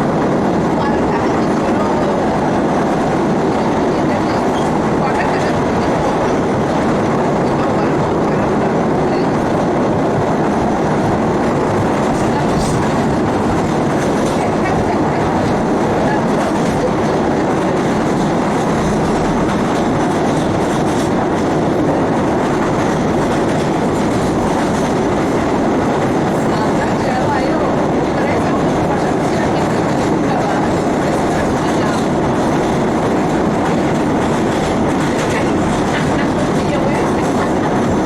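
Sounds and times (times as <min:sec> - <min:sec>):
subway car wheels rumbling on rail: 0:00.0 - 0:38.0.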